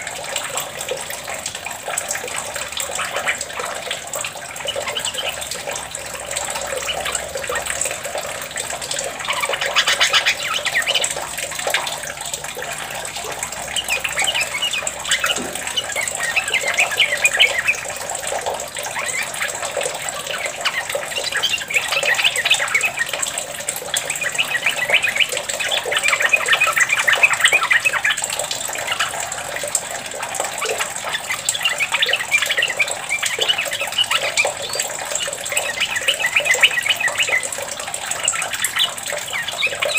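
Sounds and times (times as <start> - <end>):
running water: 0.0 - 39.9
bird chattering song: 2.1 - 39.9.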